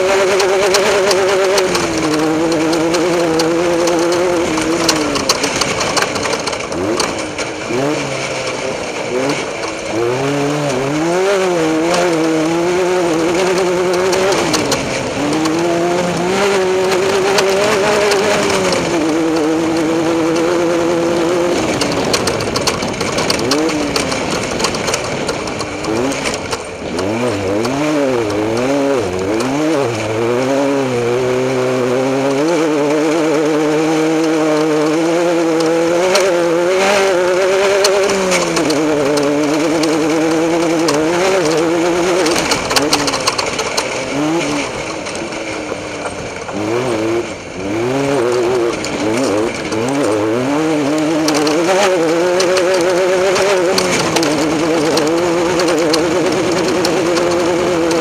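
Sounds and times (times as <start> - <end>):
off-road vehicle engine revving: 0.0 - 58.0
tyre noise: 0.0 - 58.0
wind noise: 0.0 - 58.0.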